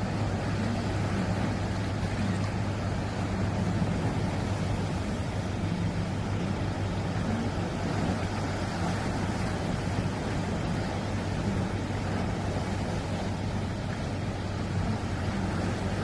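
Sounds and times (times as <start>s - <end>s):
low engine hum: 0.0s - 16.0s
sea noise: 0.0s - 16.0s.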